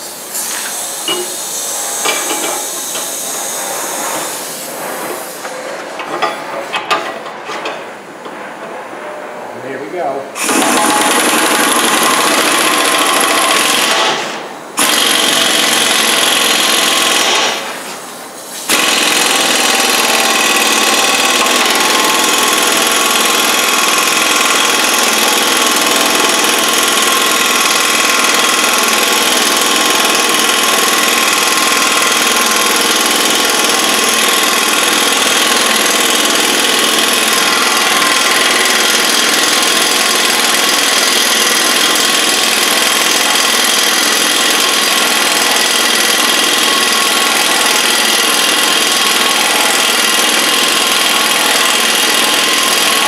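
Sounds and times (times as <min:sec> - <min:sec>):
impact wrench hammering: 0:00.6 - 0:03.2, 0:06.0 - 0:07.8, 0:10.4 - 0:17.7, 0:18.7 - 0:53.0.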